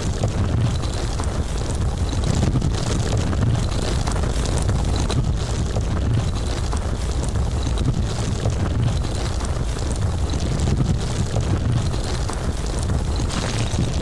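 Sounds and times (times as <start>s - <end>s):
deep rumble of moving earth: 0.0s - 14.0s.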